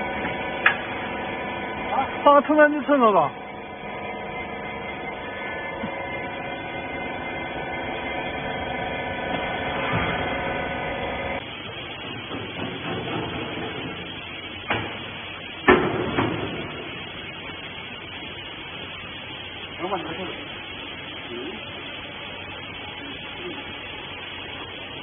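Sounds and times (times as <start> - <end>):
faint machine noise: 0.0 - 25.0
hydraulic unit humming whine: 0.0 - 25.0.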